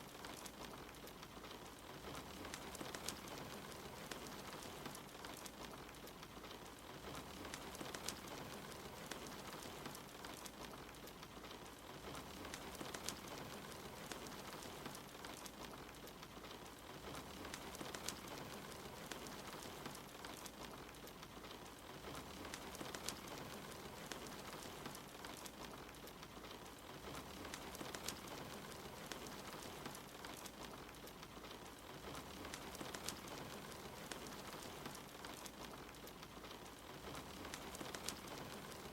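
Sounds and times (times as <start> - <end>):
steady rain falling: 0.0 - 38.9
wood fire crackling: 0.0 - 38.9.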